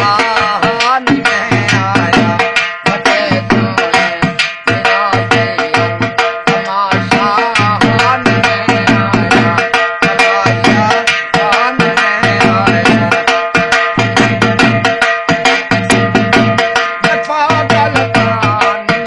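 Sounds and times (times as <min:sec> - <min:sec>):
dhol drumming folk rhythm: 0:00.0 - 0:19.0.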